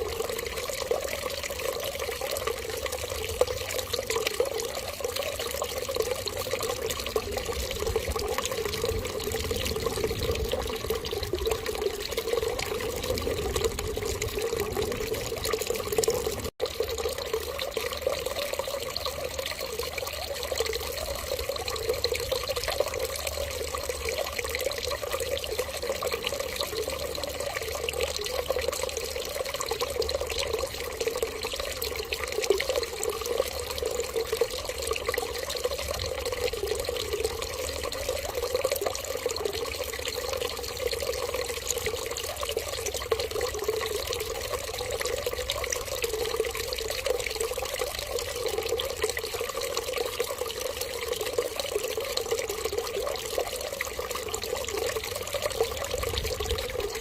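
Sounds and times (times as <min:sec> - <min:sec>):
stream of running water: 0:00.0 - 0:57.0.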